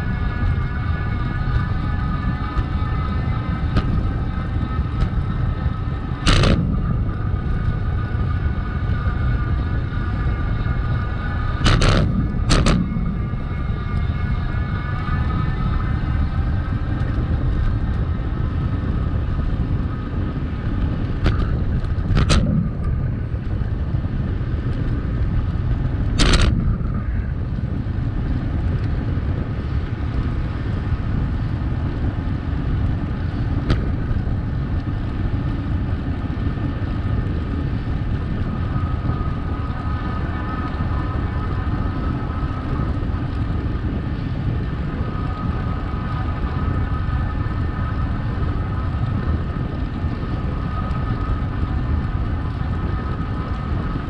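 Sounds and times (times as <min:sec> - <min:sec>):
bicycle rumbling: 0:00.0 - 0:54.0
faint wavering hum: 0:00.0 - 0:54.0.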